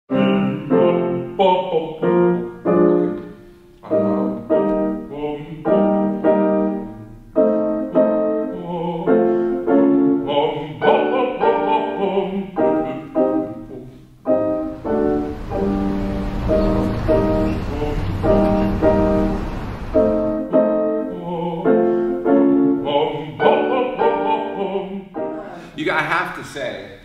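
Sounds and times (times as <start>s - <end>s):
piano chords: 0.1s - 27.0s.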